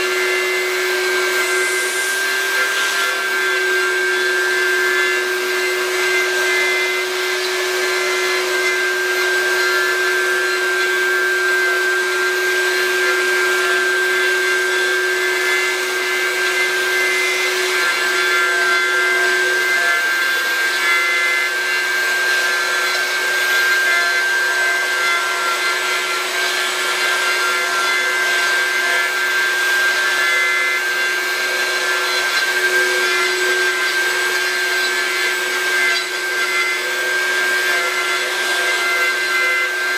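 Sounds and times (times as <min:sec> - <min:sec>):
cutter hissing through wood: 0:00.0 - 0:39.9
router spindle whine: 0:00.0 - 0:39.9.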